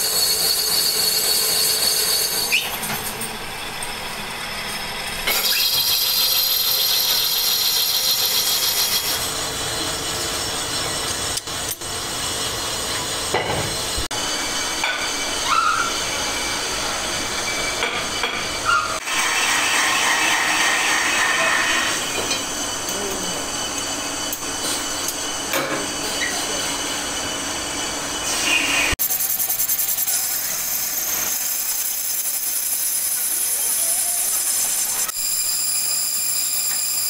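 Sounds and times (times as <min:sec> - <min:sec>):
metal cutting noise: 0:00.0 - 0:37.0
metal lathes running: 0:00.0 - 0:37.0.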